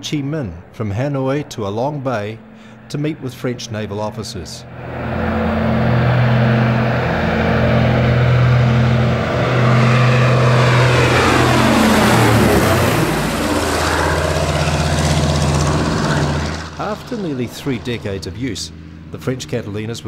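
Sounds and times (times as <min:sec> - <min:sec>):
propeller plane flying overhead: 0:00.0 - 0:20.0.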